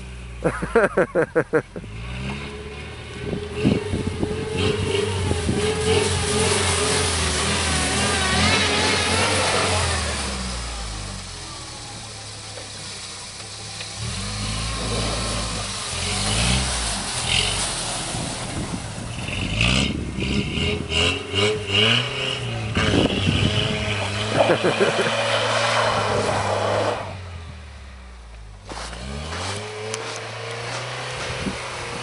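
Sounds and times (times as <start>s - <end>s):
engine revving: 1.7s - 12.0s, 13.4s - 32.0s.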